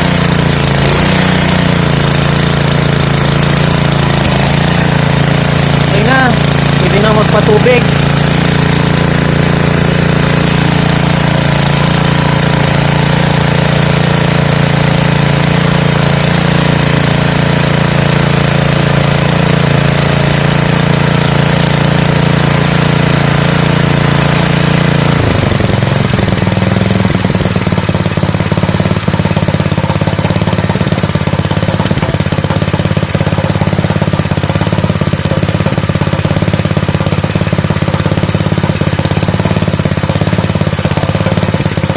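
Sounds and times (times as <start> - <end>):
petrol engine running: 0.0 - 41.9.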